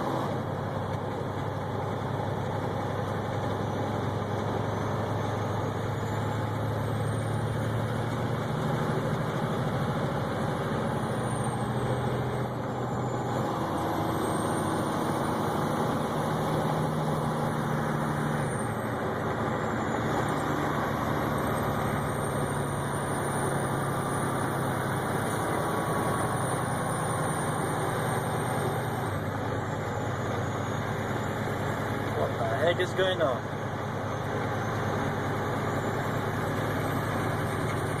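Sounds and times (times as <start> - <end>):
road noise: 0.0 - 38.0
vehicle engine drone: 0.0 - 38.0.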